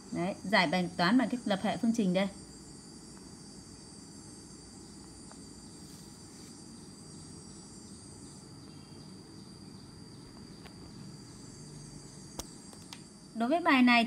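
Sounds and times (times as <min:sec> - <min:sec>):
high-pitched insect trill: 0:00.0 - 0:14.0
low background hum: 0:00.0 - 0:14.0.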